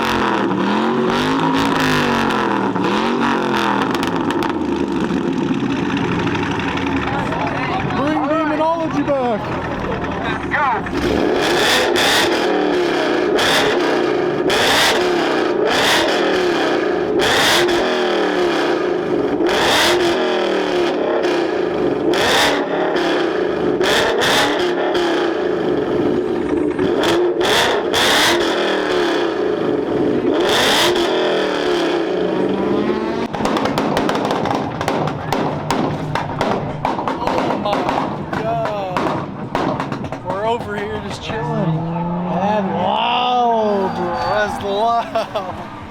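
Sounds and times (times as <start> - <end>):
car engine revving at limiter: 0.0 - 45.9
exhaust banging: 0.0 - 45.9.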